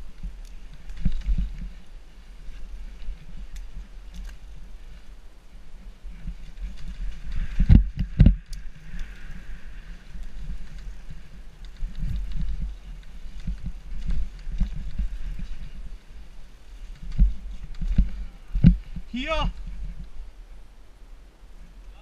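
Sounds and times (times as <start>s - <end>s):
bike rattling and thudding: 0.0s - 20.2s.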